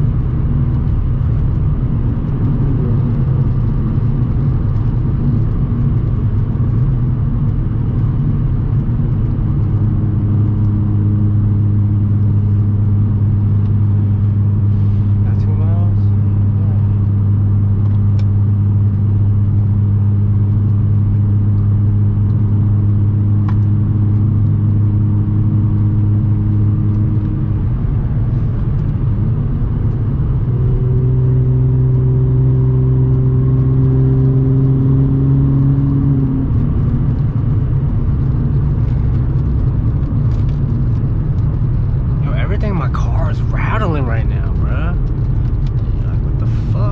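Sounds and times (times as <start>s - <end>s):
car engine drone from inside: 0.0s - 46.9s.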